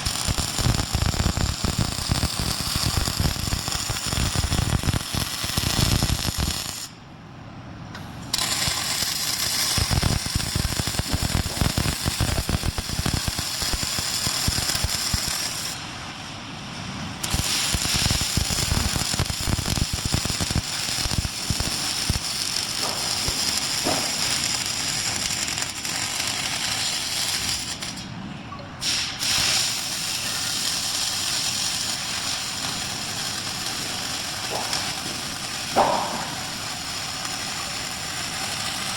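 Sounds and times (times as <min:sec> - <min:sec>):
welding arc crackling: 0:00.0 - 0:07.0, 0:08.3 - 0:28.1, 0:28.8 - 0:38.9.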